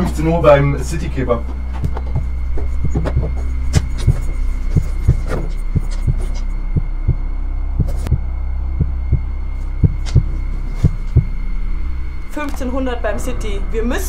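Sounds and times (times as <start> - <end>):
low droning hum: 0.0 - 14.0
steady thumping pulse: 0.0 - 14.0.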